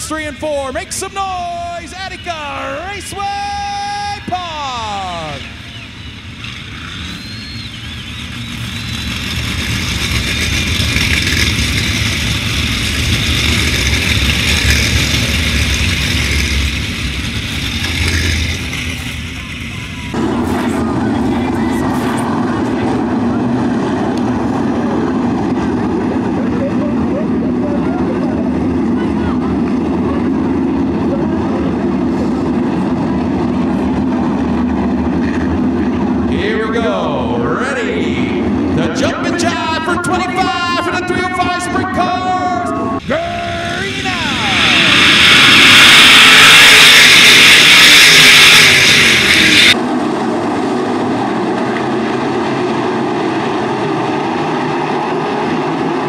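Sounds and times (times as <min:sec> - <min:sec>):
race car engines at high revs: 0:04.5 - 0:41.8, 0:42.8 - 0:56.0.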